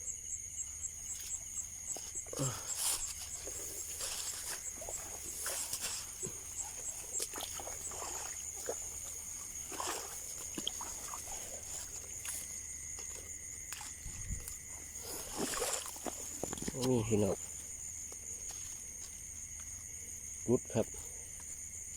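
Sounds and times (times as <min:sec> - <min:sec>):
fast pulsing insect call: 0:00.0 - 0:21.9
insects chirring: 0:00.0 - 0:21.9.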